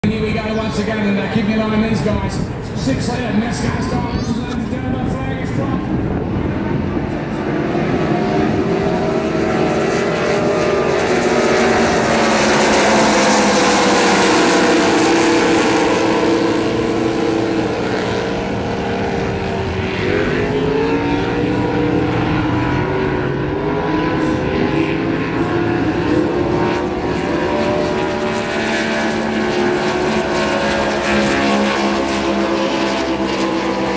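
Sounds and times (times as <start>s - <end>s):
race boat engines passing: 0.0s - 33.9s.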